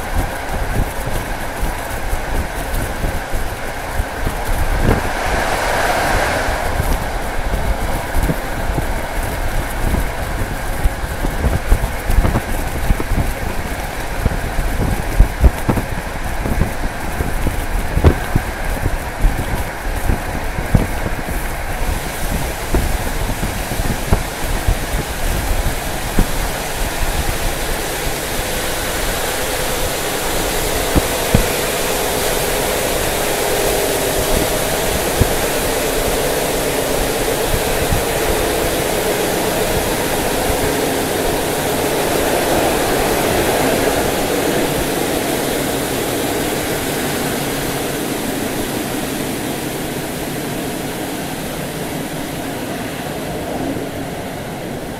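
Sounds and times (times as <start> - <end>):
train wind and wheel noise: 0.0 - 54.9
wheels clicking on rail joints: 0.0 - 54.9.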